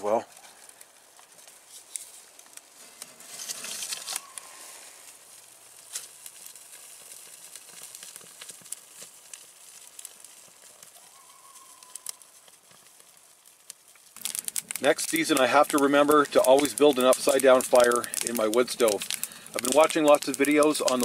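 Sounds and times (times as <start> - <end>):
fire crackling in woodstove: 0.0 - 21.0
fire hissing rush: 0.0 - 21.0.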